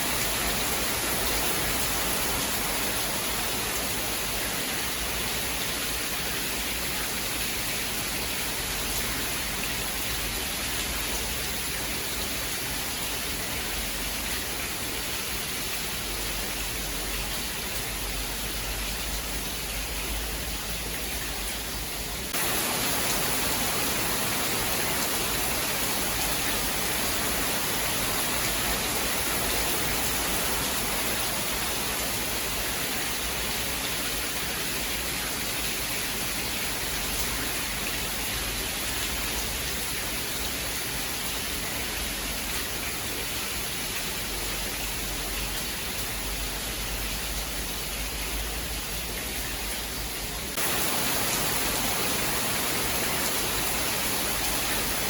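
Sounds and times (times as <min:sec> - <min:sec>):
dense rain hiss: 0:00.0 - 0:55.0.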